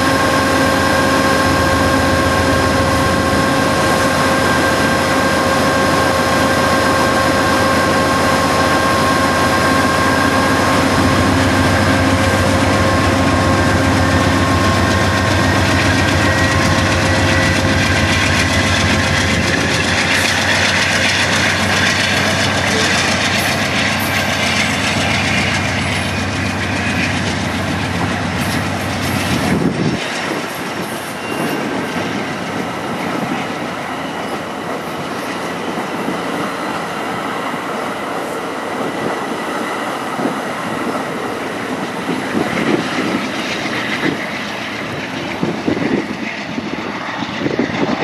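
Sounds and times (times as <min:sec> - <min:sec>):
diesel locomotive engine whining: 0:00.0 - 0:48.0.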